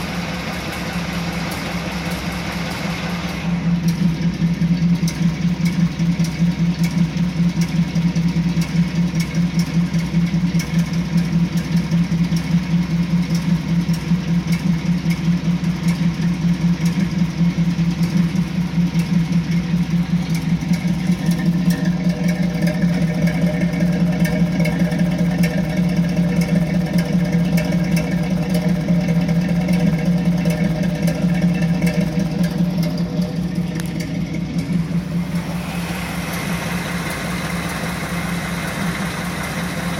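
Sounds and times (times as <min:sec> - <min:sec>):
car engine idling unevenly: 0:00.0 - 0:39.9
higher engine tones: 0:00.0 - 0:39.9.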